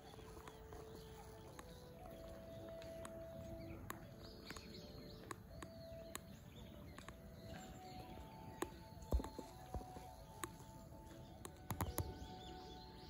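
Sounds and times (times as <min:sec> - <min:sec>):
faint bird chirps: 0:00.0 - 0:13.0
light clicks: 0:00.4 - 0:12.4.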